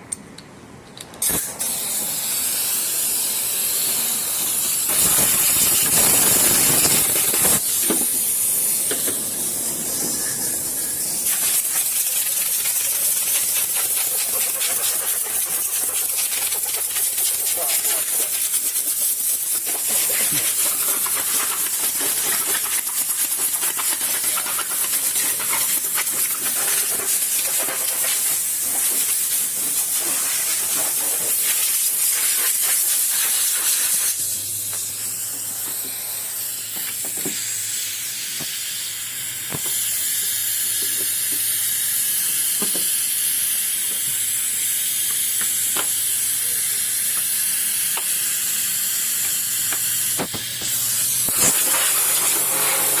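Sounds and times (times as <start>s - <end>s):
loud hiss of air or spray: 1.2s - 53.0s.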